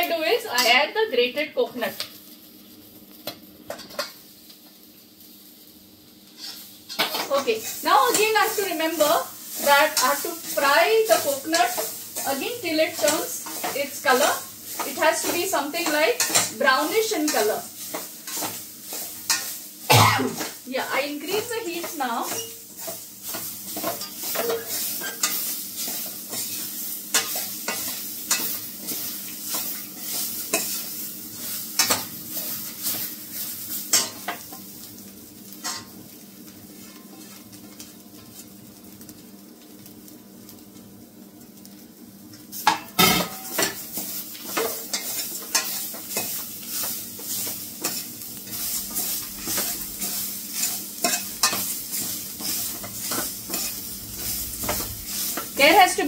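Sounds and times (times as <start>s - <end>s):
oil sizzling: 0.0s - 56.0s.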